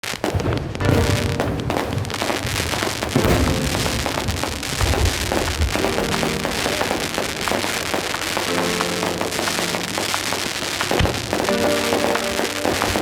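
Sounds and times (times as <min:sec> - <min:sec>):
fireworks crackling and banging: 0:00.0 - 0:13.0
music playing: 0:00.8 - 0:13.0.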